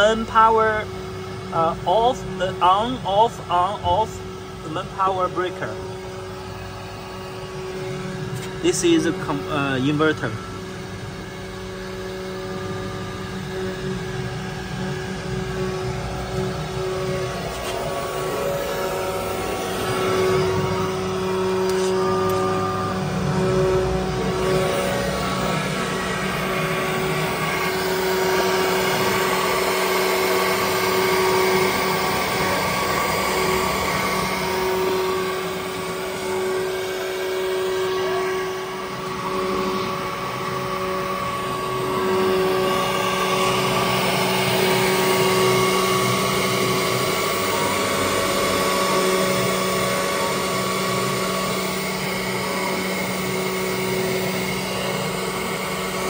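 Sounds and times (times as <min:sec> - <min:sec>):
machine noise: 0:00.0 - 0:56.0
router spindle whine: 0:00.0 - 0:56.0.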